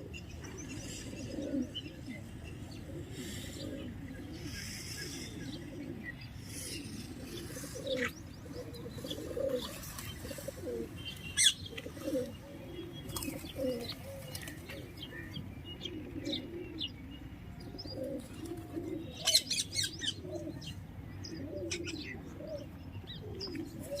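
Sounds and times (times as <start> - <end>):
pigeons cooing: 0.0 - 24.0
small birds chirping: 0.0 - 24.0.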